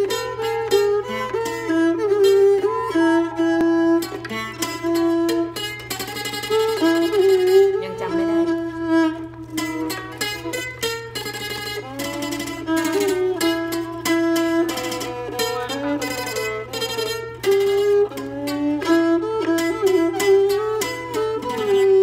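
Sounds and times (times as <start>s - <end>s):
plucked zither melody: 0.0s - 22.0s.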